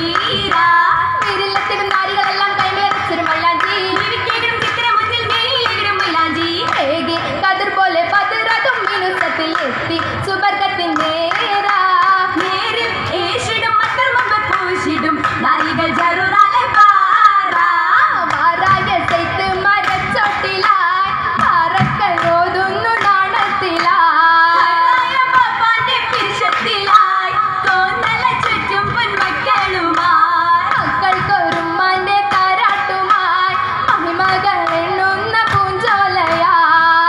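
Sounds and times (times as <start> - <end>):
rhythmic hand-clapping: 0.0 - 37.0
women singing together: 0.0 - 37.0.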